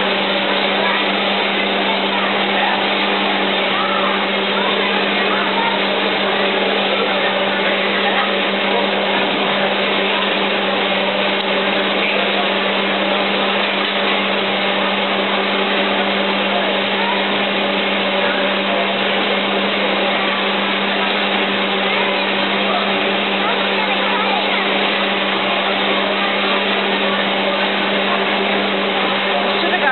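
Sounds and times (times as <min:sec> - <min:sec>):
constant rushing noise: 0:00.0 - 0:29.9
machine humming: 0:00.0 - 0:29.9.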